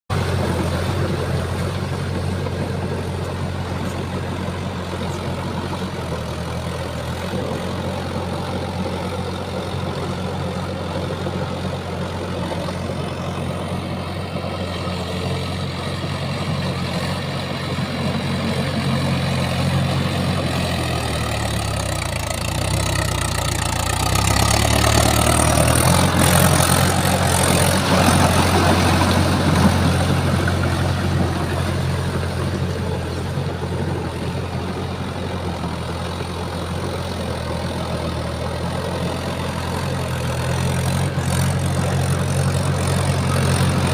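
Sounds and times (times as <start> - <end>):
tractor diesel engine running: 0.1 - 43.9.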